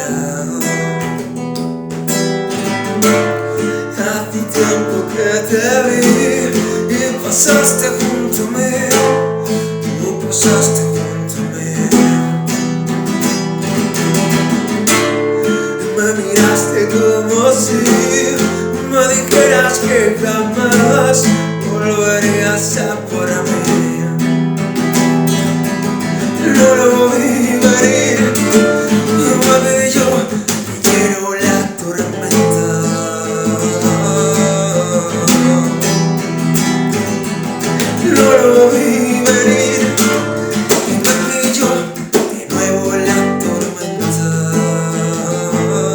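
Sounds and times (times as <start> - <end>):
guitar melody line: 0.0 - 45.9
strummed acoustic guitar: 0.0 - 45.9.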